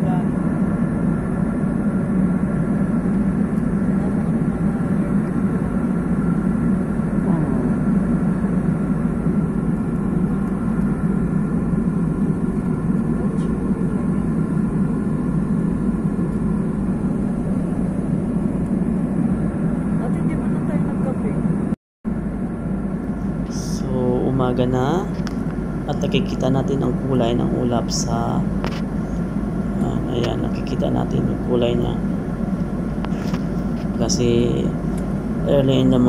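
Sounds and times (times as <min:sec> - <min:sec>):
jet engine and airflow roar: 0:00.0 - 0:36.0.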